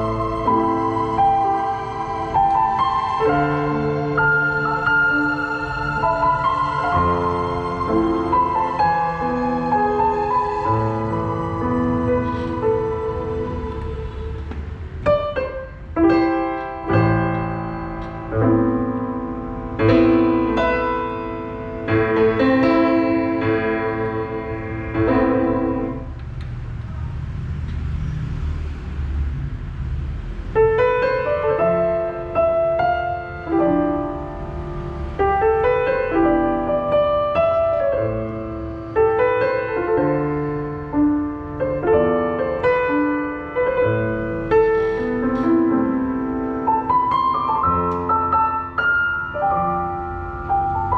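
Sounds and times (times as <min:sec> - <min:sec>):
digital piano piece: 0:00.0 - 0:28.2, 0:28.9 - 0:50.9.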